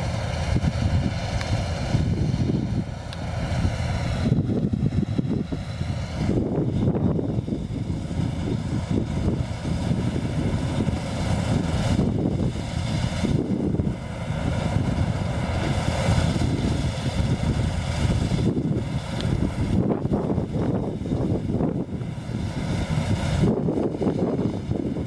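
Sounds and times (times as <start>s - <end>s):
combine harvester running: 0.0s - 25.0s
wind buffeting microphone: 0.0s - 25.0s.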